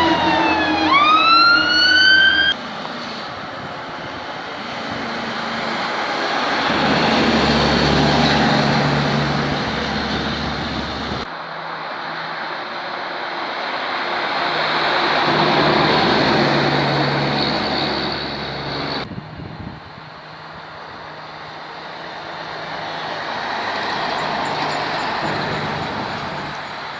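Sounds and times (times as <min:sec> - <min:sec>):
dump trucks driving past: 0:00.0 - 0:26.9.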